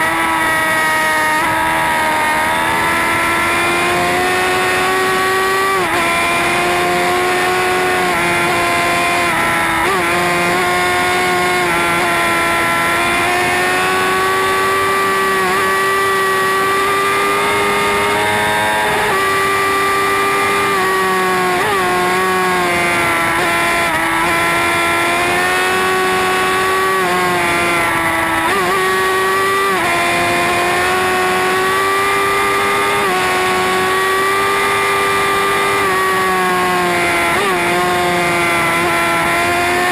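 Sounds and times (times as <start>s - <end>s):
motorcycle engine high revs: 0.0s - 39.9s.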